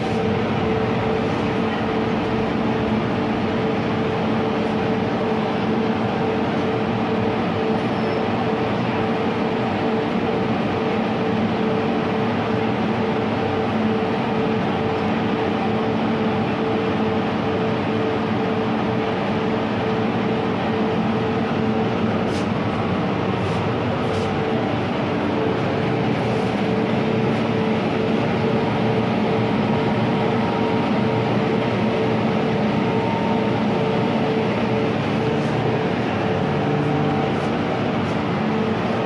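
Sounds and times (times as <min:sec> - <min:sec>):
metro car hum and drone: 0:00.0 - 0:39.0.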